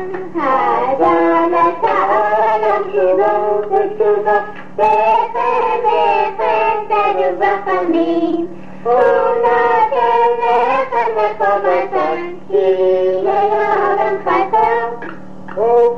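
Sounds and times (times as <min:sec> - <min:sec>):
child singing: 0:00.0 - 0:15.1
steady low hum: 0:00.0 - 0:15.9.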